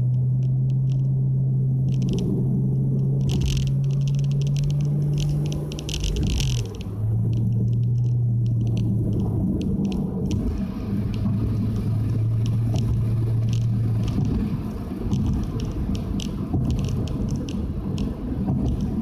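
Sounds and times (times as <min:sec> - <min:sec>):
car exhaust drone: 0:00.0 - 0:19.0
road and tyre rumble: 0:00.0 - 0:19.0.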